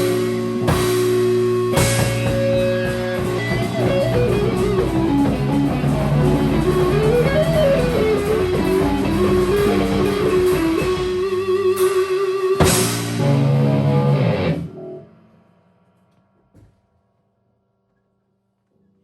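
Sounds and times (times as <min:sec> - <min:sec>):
bass guitar: 0:00.0 - 0:15.3
electric guitar melody: 0:00.0 - 0:15.4.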